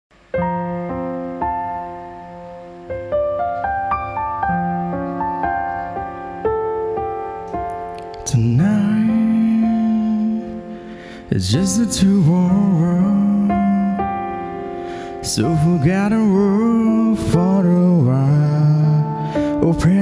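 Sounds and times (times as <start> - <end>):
electronic keyboard piano chords: 0.2 - 20.0.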